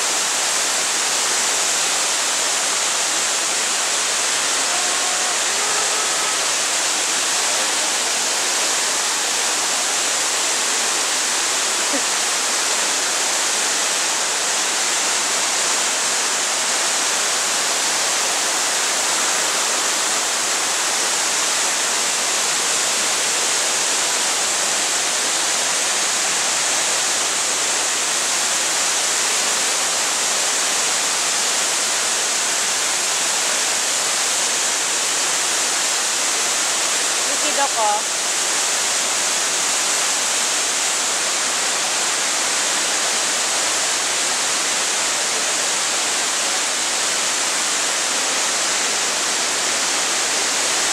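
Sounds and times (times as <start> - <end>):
waterfall rushing into a pool: 0.0 - 50.9.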